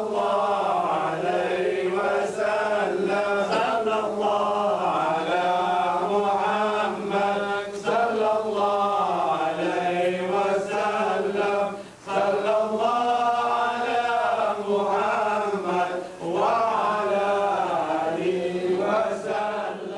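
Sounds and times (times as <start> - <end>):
person chanting recitation: 0.0 - 19.9.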